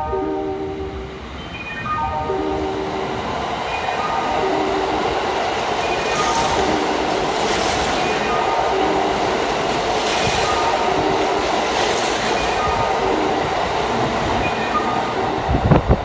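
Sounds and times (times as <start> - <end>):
electric train rushing past: 0.0 - 16.0.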